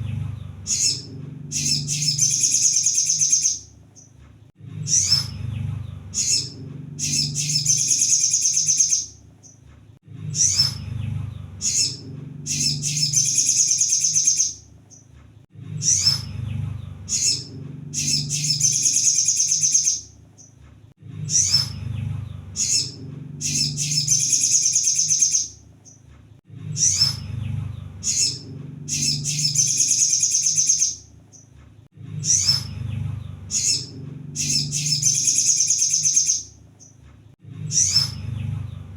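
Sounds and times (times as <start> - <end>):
bird chirps and trill: 0.0 - 9.6, 10.2 - 15.1, 15.7 - 20.6, 21.2 - 26.1, 26.7 - 31.5, 32.2 - 37.0, 37.6 - 38.9
low hum: 0.0 - 30.2, 31.0 - 38.9.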